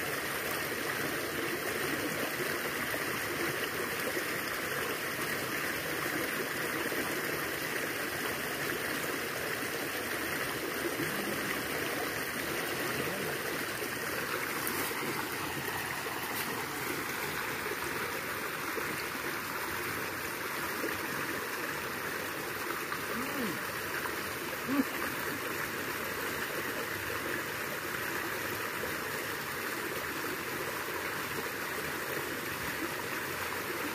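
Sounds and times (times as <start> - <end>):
stream water babbling: 0.0 - 33.9.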